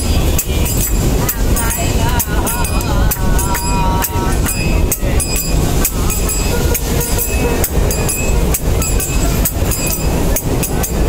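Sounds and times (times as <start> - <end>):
sharp clicks of train: 0.0 - 11.0
train carriage rumble: 0.0 - 11.0.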